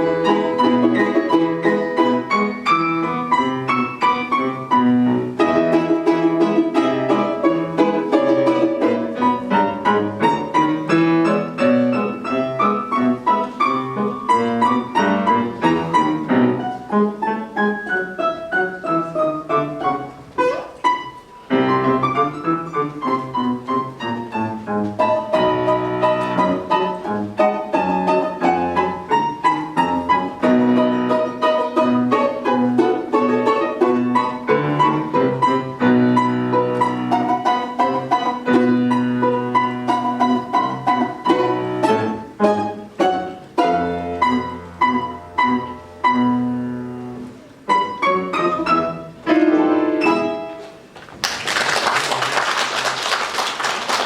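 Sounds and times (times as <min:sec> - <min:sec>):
piano accompaniment: 0:00.0 - 0:54.0.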